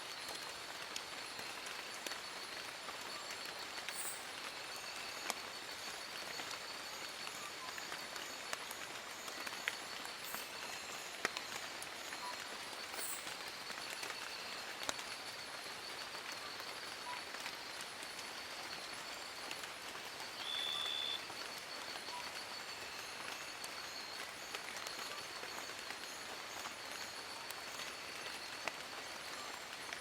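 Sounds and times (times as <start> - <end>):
rain on leaves: 0.0 - 30.0
raindrops pattering: 0.0 - 30.0.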